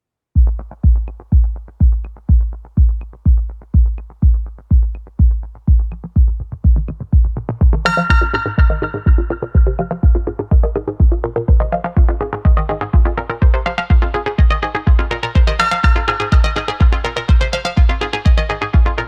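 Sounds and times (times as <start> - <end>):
kick drum beat: 0.4 - 19.0
synth chords: 0.4 - 19.0.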